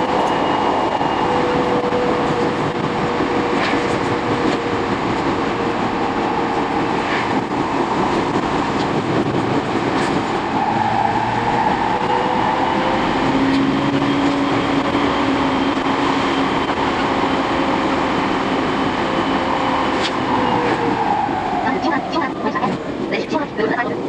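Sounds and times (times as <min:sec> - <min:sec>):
train wheels rumbling: 0:00.0 - 0:23.3.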